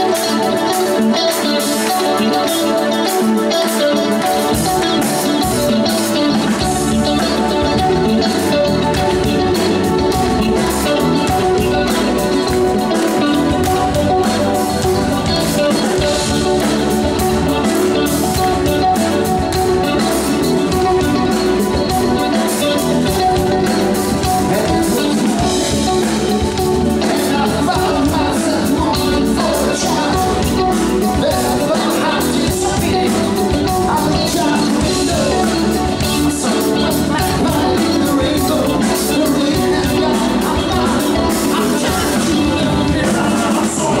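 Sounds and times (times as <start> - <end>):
live rock band playing: 0.0 - 44.0
man singing: 0.0 - 44.0.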